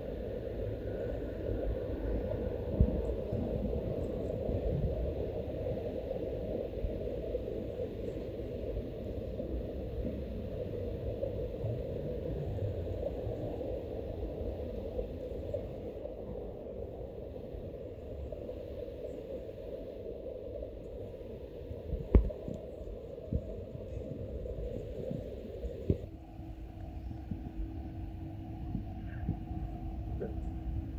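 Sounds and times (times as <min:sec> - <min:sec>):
low outdoor background rumble: 0:00.0 - 0:30.9.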